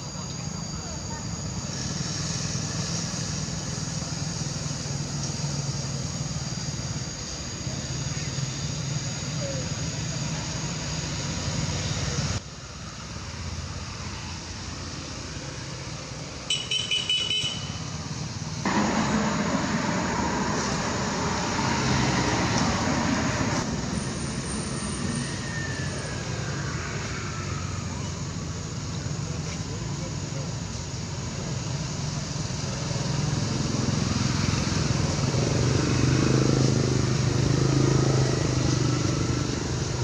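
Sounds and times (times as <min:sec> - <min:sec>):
distant road traffic rumble: 0:00.0 - 0:40.0.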